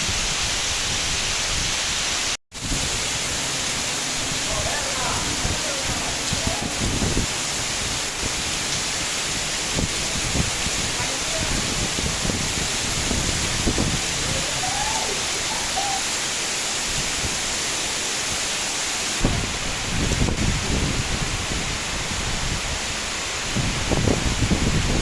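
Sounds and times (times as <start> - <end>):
heavy rain pouring: 0.0 - 25.0
wind gusts rumbling: 0.0 - 25.0.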